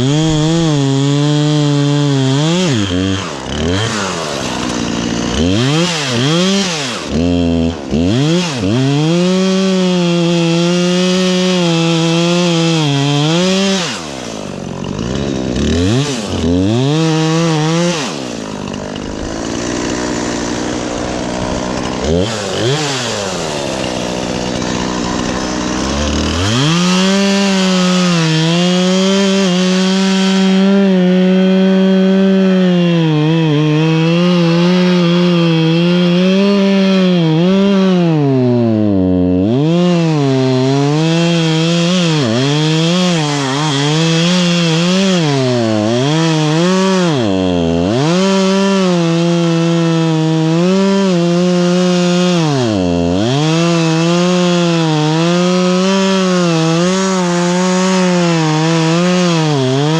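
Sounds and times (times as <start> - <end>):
chainsaw cutting wood: 0.0 - 59.9
chainsaw revving: 0.0 - 59.9.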